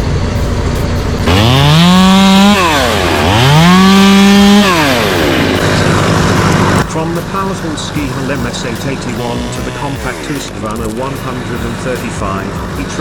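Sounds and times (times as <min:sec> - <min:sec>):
chainsaw engine revving: 0:00.0 - 0:13.0
low rumble: 0:00.0 - 0:13.0.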